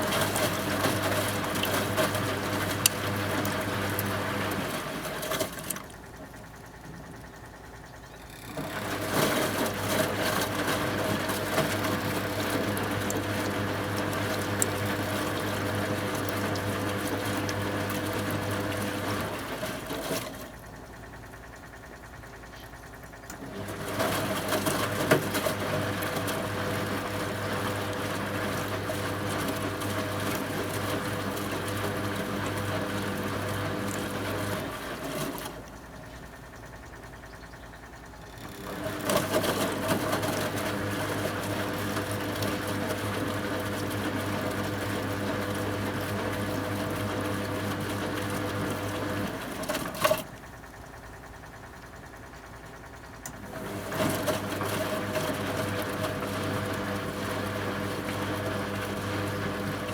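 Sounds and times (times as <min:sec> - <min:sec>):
washing machine drum motor humming: 0:00.0 - 0:59.9.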